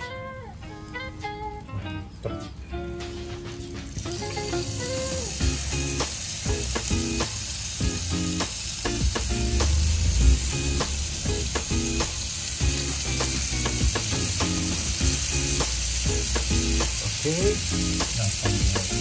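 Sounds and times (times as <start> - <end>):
squid sizzling on a grill: 0.6 - 19.0.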